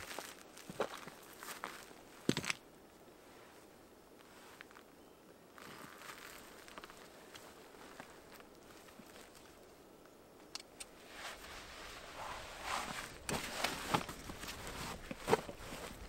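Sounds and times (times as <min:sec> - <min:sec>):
backpack and dry grass rustling: 0:00.0 - 0:10.1, 0:10.9 - 0:16.0.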